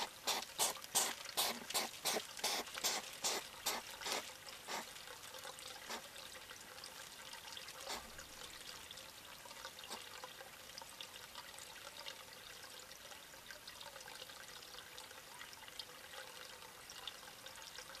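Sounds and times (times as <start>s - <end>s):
trickle of running water: 0.0s - 18.0s.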